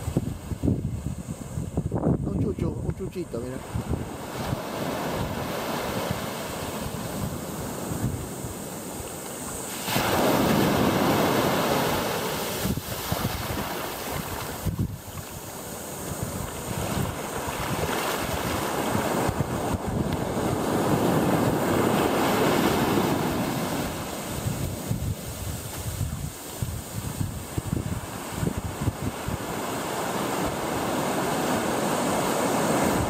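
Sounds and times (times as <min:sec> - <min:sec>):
ocean surf washing up beach: 0:00.0 - 0:33.0
wind buffeting microphone: 0:00.0 - 0:33.0.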